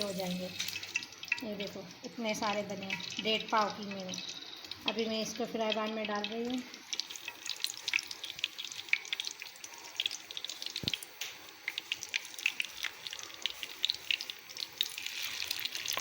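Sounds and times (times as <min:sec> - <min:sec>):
ghee crackling in a frying pan: 0:00.0 - 0:16.0.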